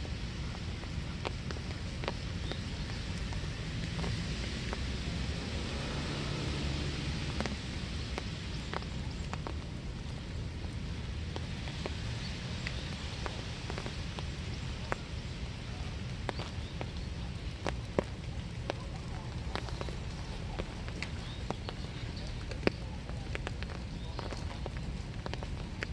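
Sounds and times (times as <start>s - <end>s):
low steady rumble: 0.0s - 25.9s
rain falling: 0.0s - 25.9s
raindrops ticking on surfaces: 0.0s - 25.9s.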